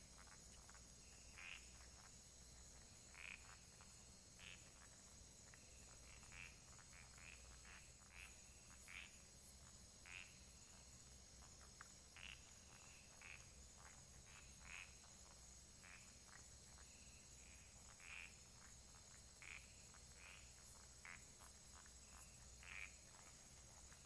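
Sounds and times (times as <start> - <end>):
frogs croaking: 0.0 - 24.0
high insect drone: 0.0 - 24.0.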